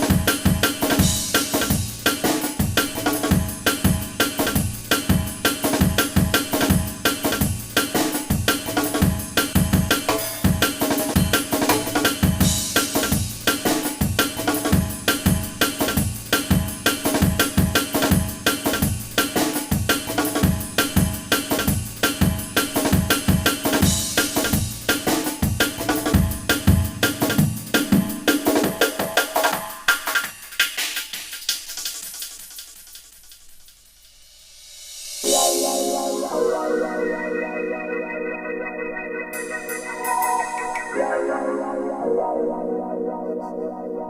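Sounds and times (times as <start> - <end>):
instrumental music with drum beat: 0.0 - 37.7, 39.3 - 41.1.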